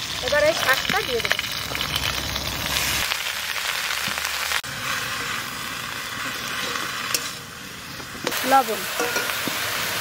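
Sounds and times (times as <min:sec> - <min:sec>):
greens sizzling in oil: 0:00.0 - 0:10.0.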